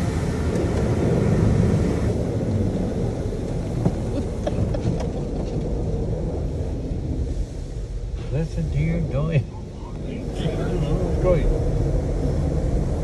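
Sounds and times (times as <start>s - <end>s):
car wash machinery rumble: 0.0s - 13.0s
water and foam hissing: 0.0s - 13.0s.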